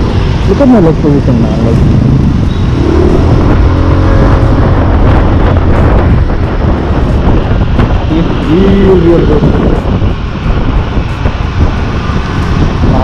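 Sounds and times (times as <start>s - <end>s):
wind on microphone: 0.0s - 13.0s
scooter engine running: 1.9s - 13.0s.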